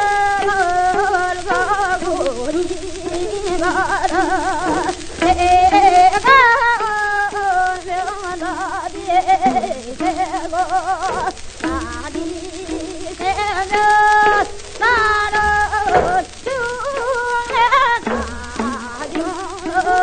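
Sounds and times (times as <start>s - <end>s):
folk singing with wide vibrato: 0.0s - 20.0s.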